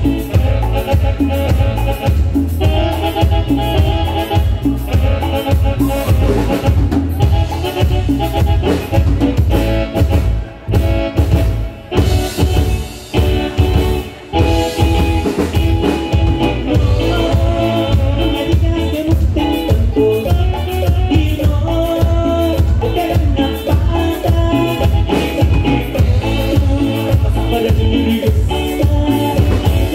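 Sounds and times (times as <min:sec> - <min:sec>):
band playing live: 0:00.0 - 0:29.9
pulsing drum and bass beat: 0:00.0 - 0:29.9.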